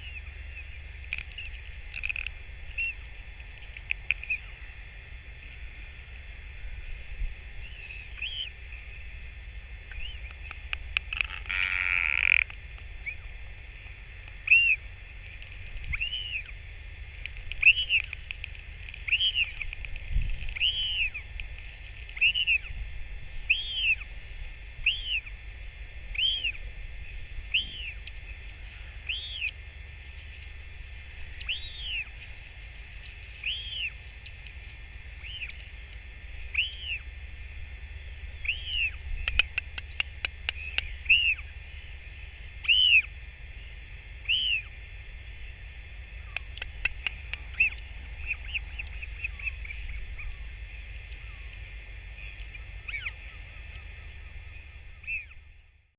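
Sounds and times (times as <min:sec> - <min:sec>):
bird calling: 0:00.0 - 0:55.9
low wind rumble: 0:00.0 - 0:55.9.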